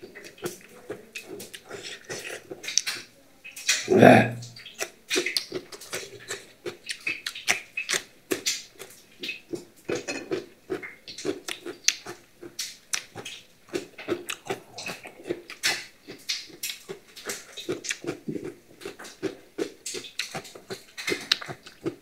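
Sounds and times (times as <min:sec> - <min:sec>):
chewing crunchy vegetables: 0:00.0 - 0:22.0
mouth smacks: 0:00.1 - 0:10.1, 0:10.8 - 0:22.0.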